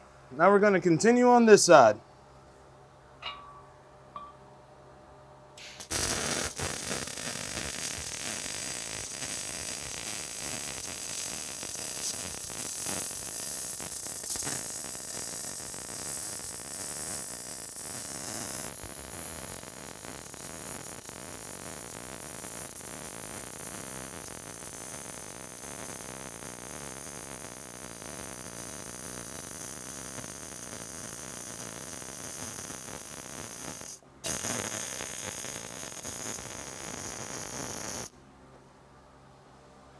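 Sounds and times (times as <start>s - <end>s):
welding arc hissing: 5.6s - 38.1s.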